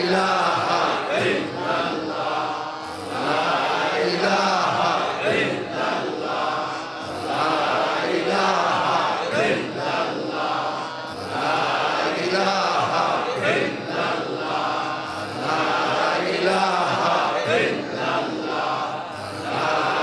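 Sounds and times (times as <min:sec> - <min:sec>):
men chanting rhythmically: 0:00.0 - 0:20.0.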